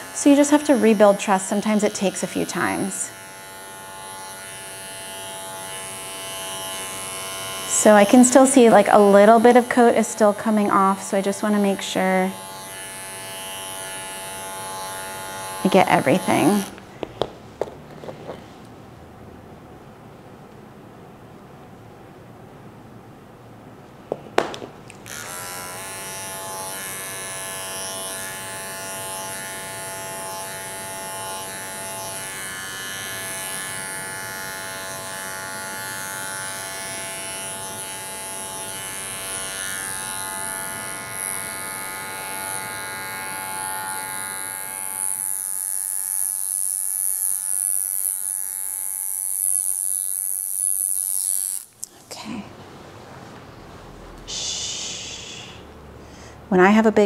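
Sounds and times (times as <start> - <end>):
electric clippers buzzing: 0.0 - 18.4, 24.2 - 51.9.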